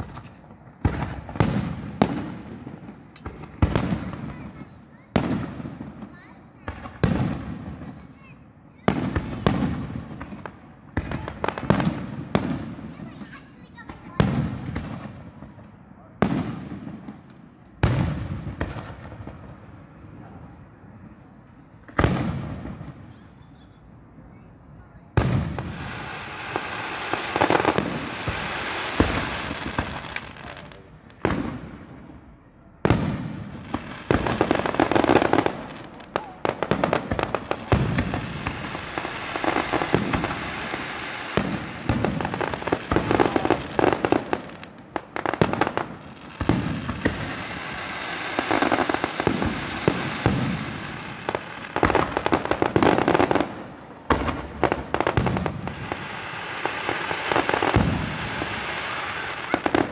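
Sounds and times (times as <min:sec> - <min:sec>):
firework bangs and crackling: 0:00.0 - 0:59.9
firework booms with echo: 0:00.0 - 0:59.9.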